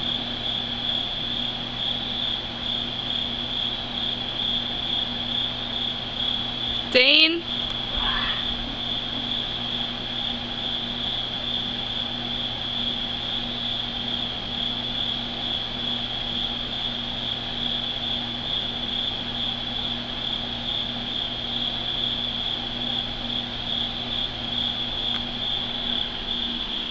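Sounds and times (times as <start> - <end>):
night insects trilling: 0.0 - 26.9.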